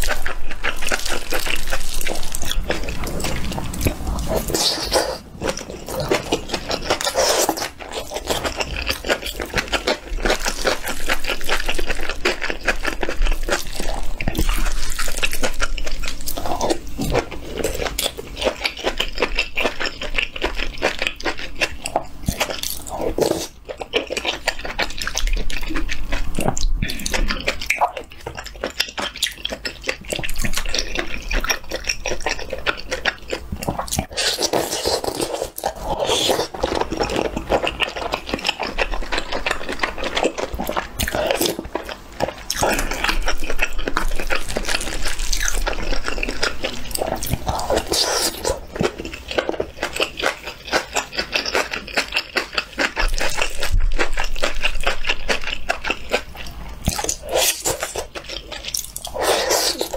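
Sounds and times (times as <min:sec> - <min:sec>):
wet chewing and lip-smacking: 0:00.0 - 0:59.9.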